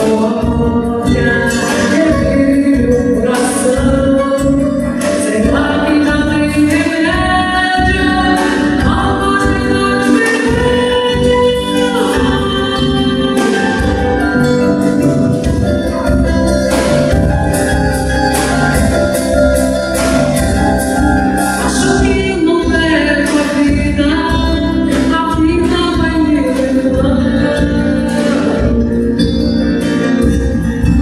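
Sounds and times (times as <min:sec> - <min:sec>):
woman singing: 0:00.0 - 0:16.2, 0:21.1 - 0:31.0
drums: 0:00.0 - 0:31.0
keyboard and guitar chords: 0:00.0 - 0:31.0.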